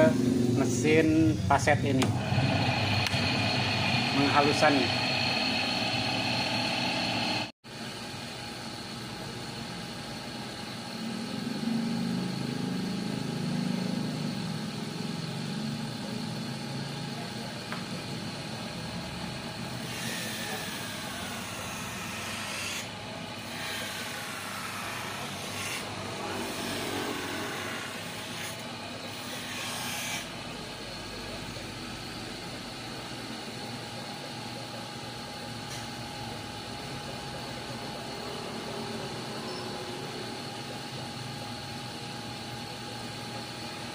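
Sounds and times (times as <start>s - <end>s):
grinding wheel motor running: 0.0s - 7.5s, 10.6s - 43.9s.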